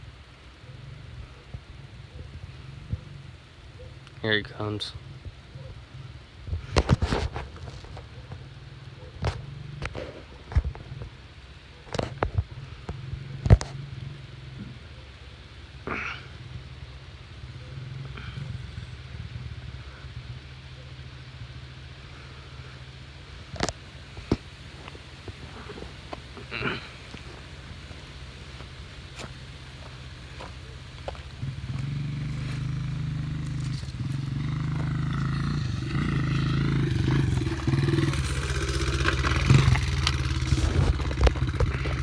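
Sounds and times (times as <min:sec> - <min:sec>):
distant dirt bike engine: 0:00.0 - 0:42.0.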